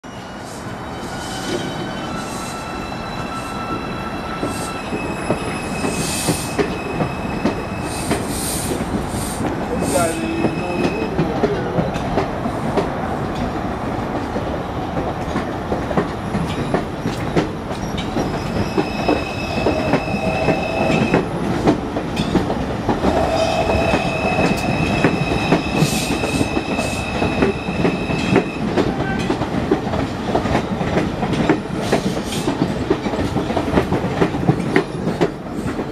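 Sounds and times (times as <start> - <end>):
subway train rumble: 0.0 - 35.9.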